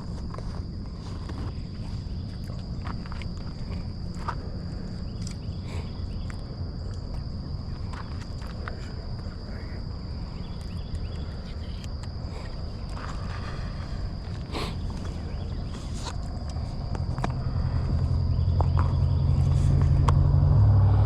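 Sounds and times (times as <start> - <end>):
high insect trill: 0.0 - 21.0
low rumble: 0.0 - 21.0.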